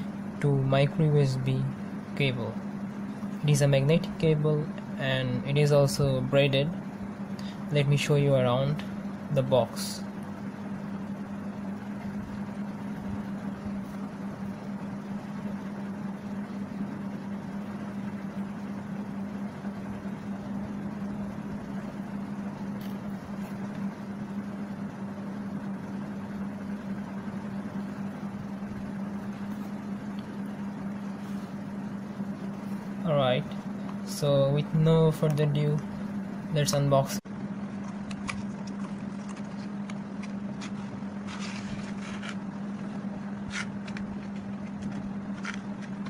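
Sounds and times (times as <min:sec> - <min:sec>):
low background hum: 0:00.0 - 0:46.0.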